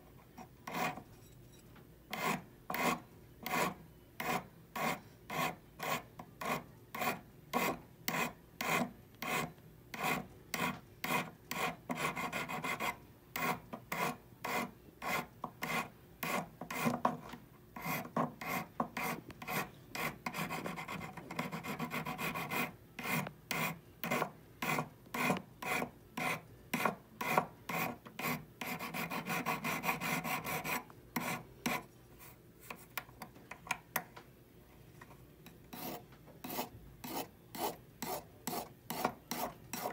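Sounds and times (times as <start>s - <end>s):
hand file rasping on metal: 0.6s - 1.0s, 2.1s - 17.0s, 17.8s - 31.9s, 35.7s - 39.9s.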